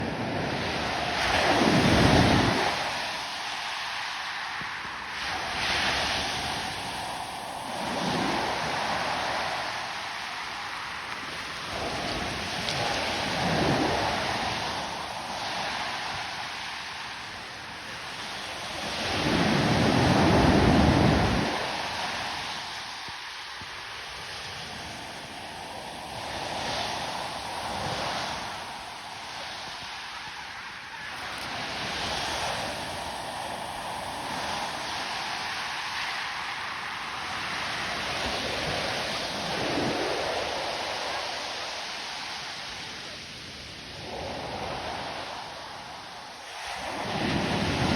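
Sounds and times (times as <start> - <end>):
waves breaking: 0.0 - 47.9.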